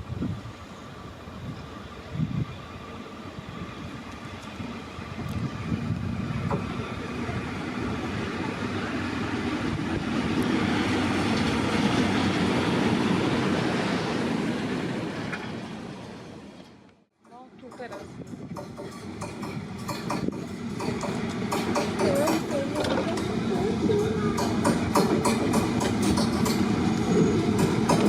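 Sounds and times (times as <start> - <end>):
electric locomotive rolling on rails: 0.0 - 28.0.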